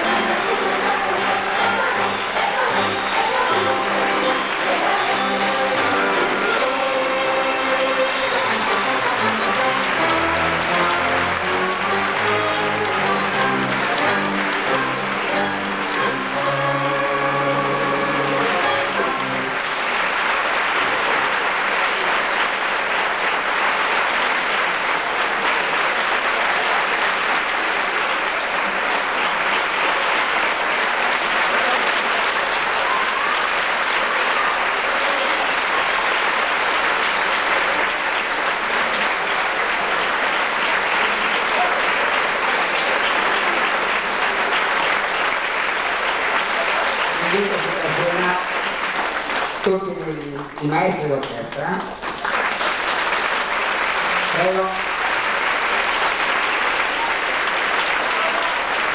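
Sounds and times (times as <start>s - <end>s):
audience applauding: 0.0s - 58.9s.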